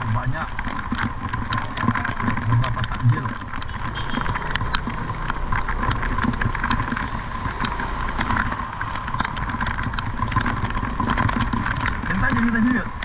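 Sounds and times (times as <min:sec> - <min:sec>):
car and motorbike engines: 0:00.0 - 0:13.0
raindrops on an umbrella: 0:00.0 - 0:13.0.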